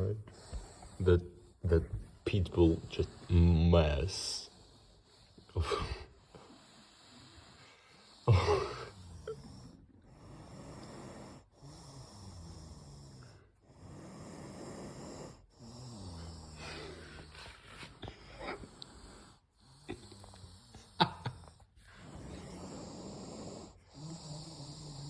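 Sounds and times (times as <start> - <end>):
dog snoring and wheezing: 0.0 - 25.0.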